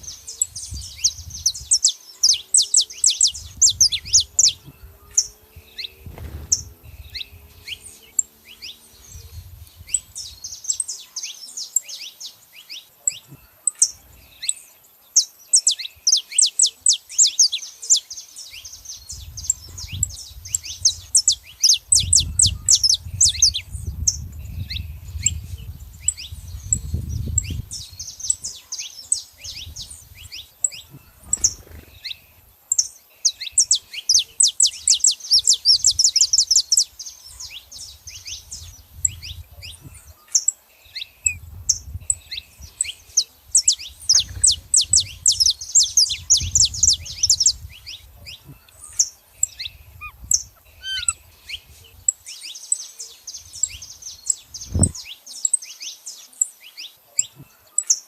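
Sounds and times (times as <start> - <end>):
finches chirping and trilling: 0.0 - 58.0.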